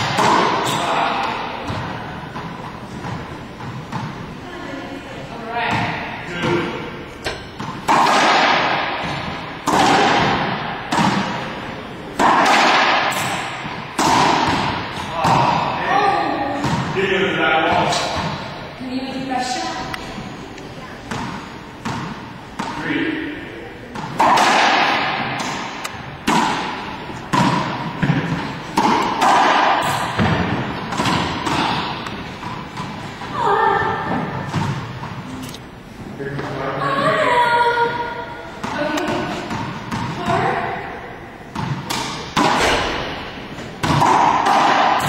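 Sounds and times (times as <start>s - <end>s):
racquetball hits echoing: 0.0s - 4.3s, 5.6s - 18.6s, 21.0s - 35.3s, 37.9s - 40.9s, 41.5s - 45.0s.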